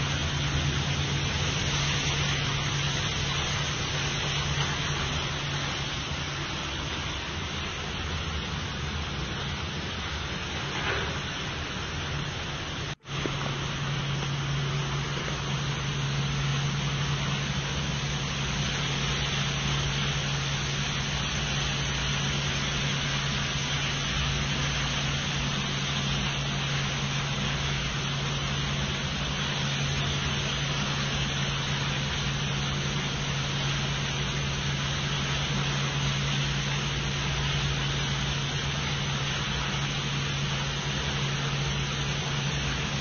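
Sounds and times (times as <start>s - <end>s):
pump motor hum: 0.0s - 43.0s.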